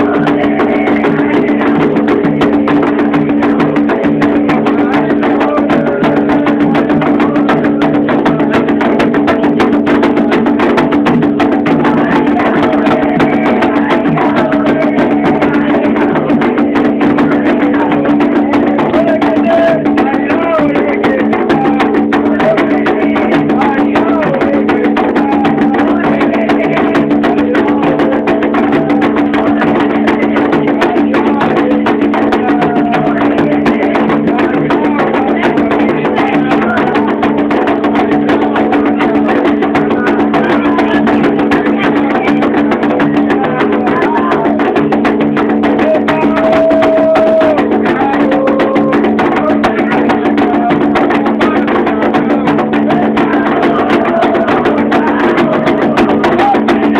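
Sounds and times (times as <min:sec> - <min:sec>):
fast hand drumming: 0:00.0 - 0:56.9
voices singing: 0:00.0 - 0:56.9.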